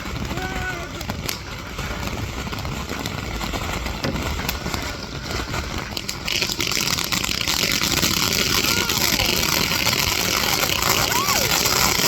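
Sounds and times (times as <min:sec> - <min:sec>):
firework crackles: 0:00.0 - 0:12.0
firework hissing: 0:00.0 - 0:12.0.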